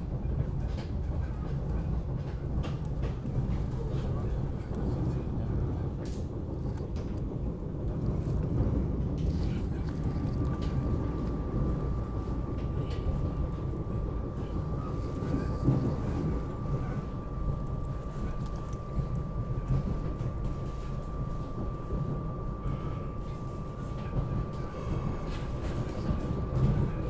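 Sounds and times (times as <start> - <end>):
train car low rumble: 0.0 - 27.0.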